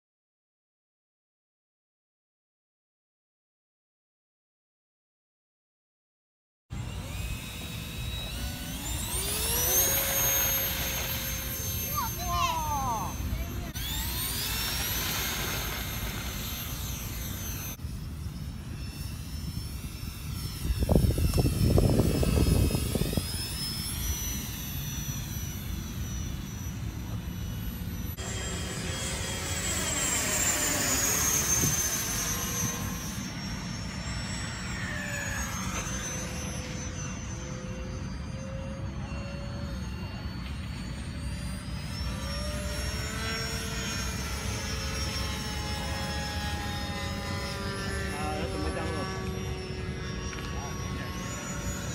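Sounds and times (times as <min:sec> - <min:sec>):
ducted fans whining: 0:06.7 - 0:51.9.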